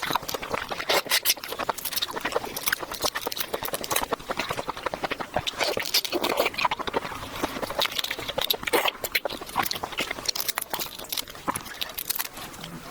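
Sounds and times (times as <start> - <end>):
person chewing: 0.0 - 12.9.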